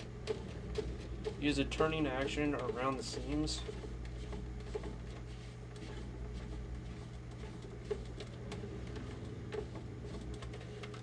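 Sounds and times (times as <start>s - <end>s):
paper towel scrubbing plastic: 0.0s - 11.0s
steady low hum: 0.0s - 11.0s.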